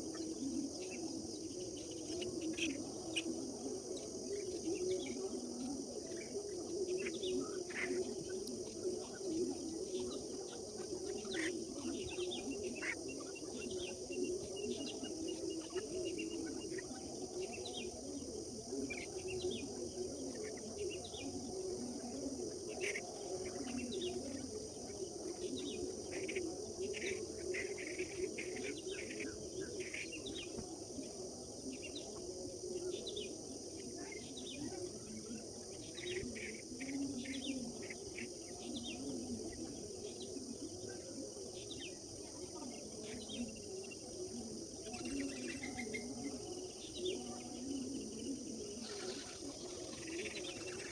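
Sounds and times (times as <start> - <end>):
low continuous murmur: 0.0 - 50.9.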